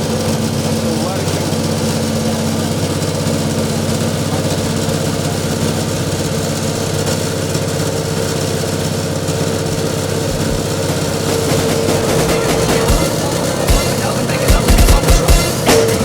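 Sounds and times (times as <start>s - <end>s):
machine motor droning with whine: 0.0s - 16.0s.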